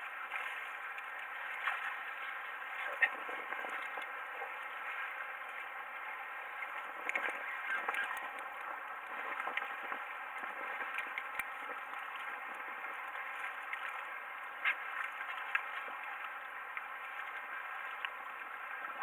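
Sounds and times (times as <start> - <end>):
lapping water: 0.0 - 19.0.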